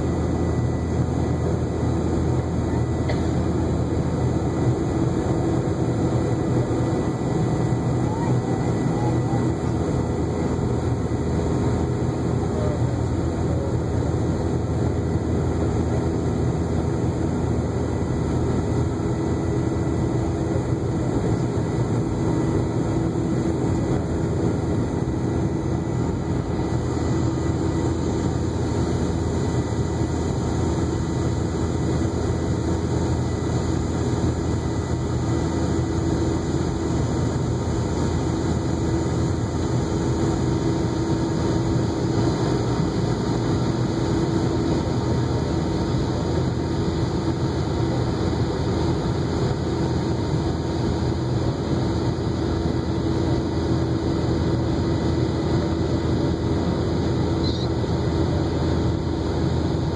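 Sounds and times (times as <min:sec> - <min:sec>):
faint high whine: 0:00.0 - 0:59.9
jet engine drone: 0:00.0 - 0:59.9.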